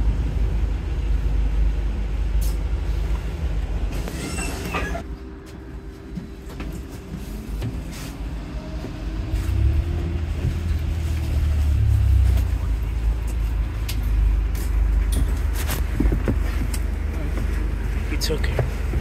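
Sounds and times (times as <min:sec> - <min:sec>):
bus drivetrain and road rumble: 0:00.0 - 0:19.0
knocks and clicks inside bus: 0:00.0 - 0:19.0.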